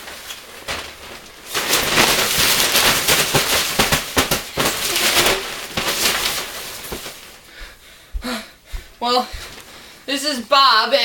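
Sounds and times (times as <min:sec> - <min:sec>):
play tent rustling and crackling: 0:00.0 - 0:07.8, 0:08.7 - 0:11.0.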